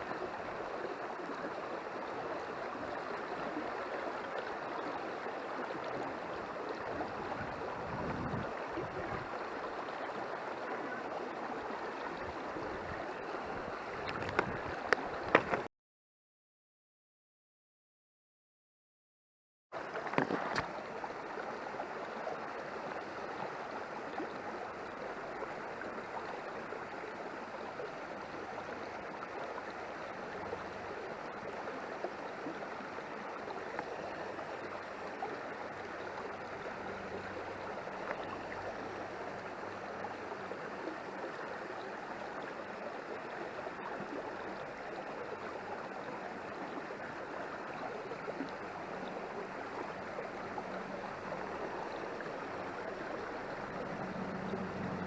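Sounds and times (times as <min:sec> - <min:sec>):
stream rushing water: 0:00.0 - 0:15.7, 0:19.8 - 0:55.0.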